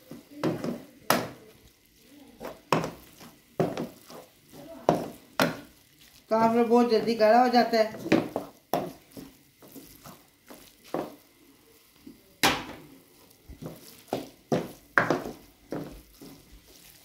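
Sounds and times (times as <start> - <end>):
wooden spatula scraping a wok: 0.0 - 17.0.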